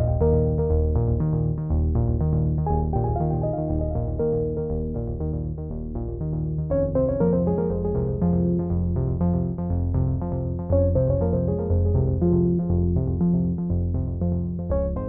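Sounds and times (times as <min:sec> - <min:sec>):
synthesizer and keyboard music: 0:00.0 - 0:15.0.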